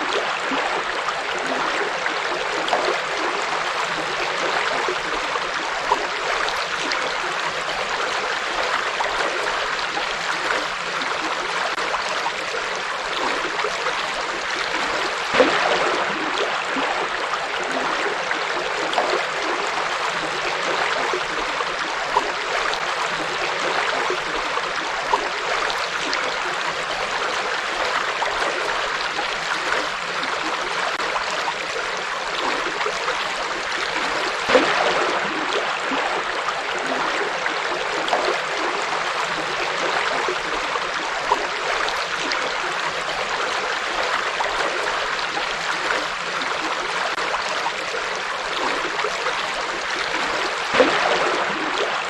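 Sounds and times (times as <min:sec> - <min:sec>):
water splashing: 0:00.0 - 0:52.0.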